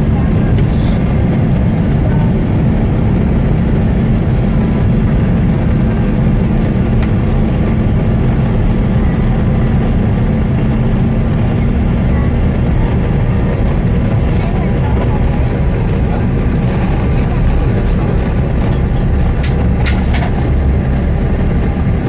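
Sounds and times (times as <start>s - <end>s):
jet cabin airflow and engines: 0.0s - 22.0s
steady low hum: 0.0s - 22.0s.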